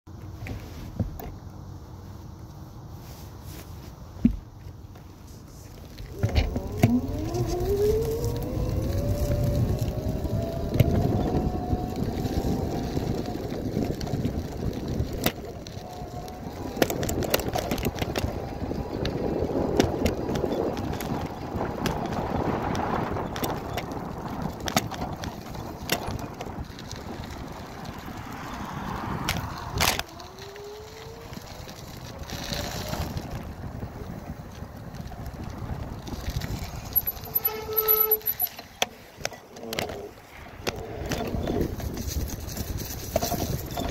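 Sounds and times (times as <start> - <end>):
bicycle tyre and wind rumble: 0.1 - 43.9
bike clicks and knocks over cracks: 5.7 - 43.9.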